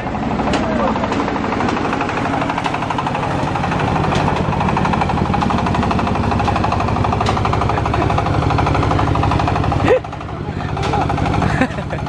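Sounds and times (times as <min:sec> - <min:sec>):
small engine chugging: 0:00.0 - 0:12.0.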